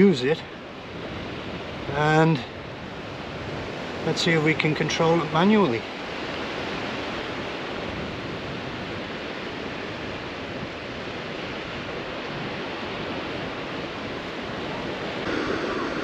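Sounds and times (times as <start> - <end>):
wind: 0.0 - 16.0
sea surf: 1.4 - 16.0.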